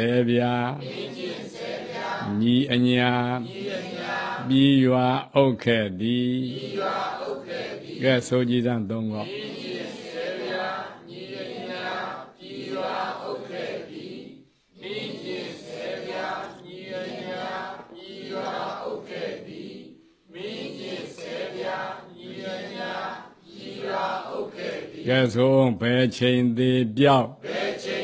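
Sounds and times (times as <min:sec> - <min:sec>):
congregation chanting in unison: 0:00.0 - 0:28.0.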